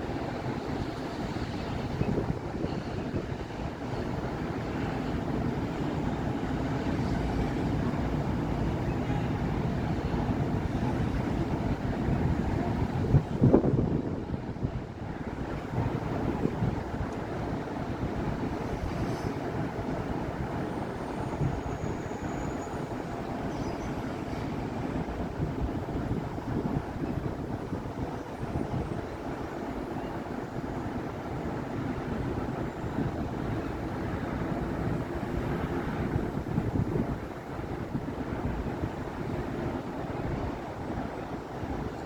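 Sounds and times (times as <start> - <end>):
city road traffic: 0.0 - 42.0.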